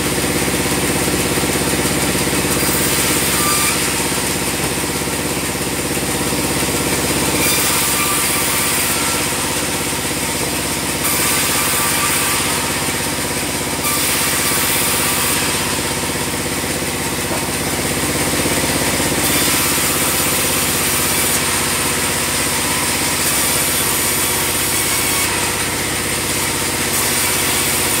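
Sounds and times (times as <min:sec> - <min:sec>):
band sawmill machine drone: 0:00.0 - 0:28.0.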